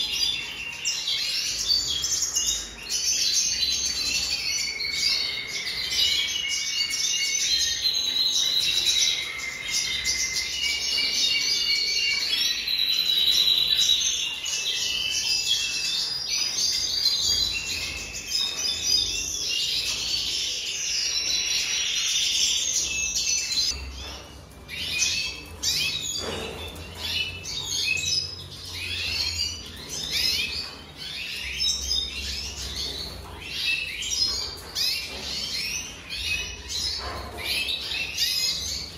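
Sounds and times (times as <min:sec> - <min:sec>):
bird chirps: 0:00.0 - 0:38.9
bird twittering song: 0:00.0 - 0:38.9.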